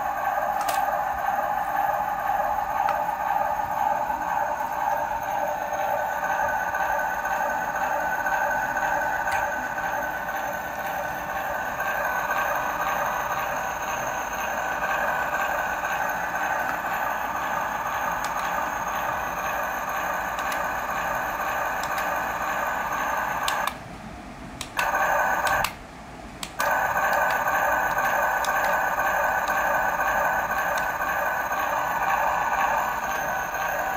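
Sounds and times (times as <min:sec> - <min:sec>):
toy car electric motor running: 0:02.0 - 0:23.7, 0:24.8 - 0:25.7, 0:26.6 - 0:33.9.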